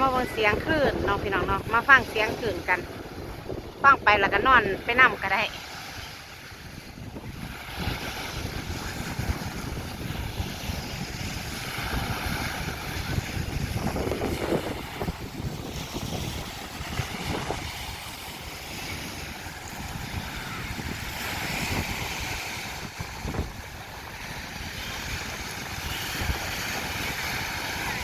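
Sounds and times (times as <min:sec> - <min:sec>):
sea waves washing in: 0:00.0 - 0:28.0
wind gusting across microphone: 0:00.0 - 0:28.0.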